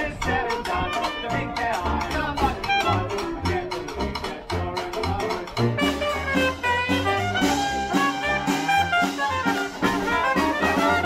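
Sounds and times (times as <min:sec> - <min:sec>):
jazz band playing: 0:00.0 - 0:11.0.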